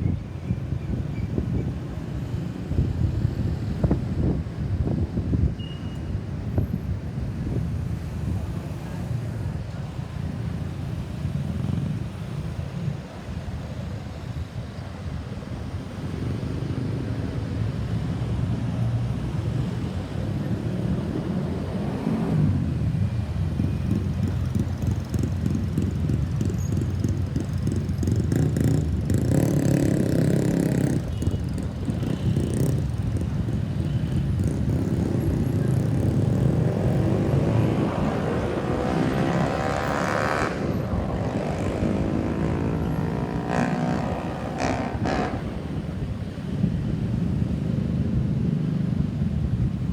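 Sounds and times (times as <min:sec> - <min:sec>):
road traffic rumble: 0:00.0 - 0:49.9.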